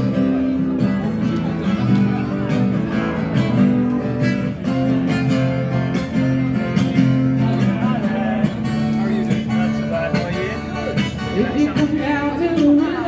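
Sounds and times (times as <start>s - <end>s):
plucked string music: 0.0s - 13.0s.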